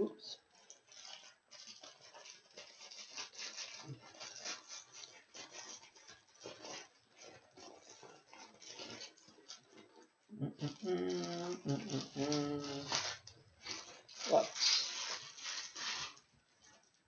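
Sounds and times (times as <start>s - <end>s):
packet rustling and crinkling: 0.3s - 17.0s.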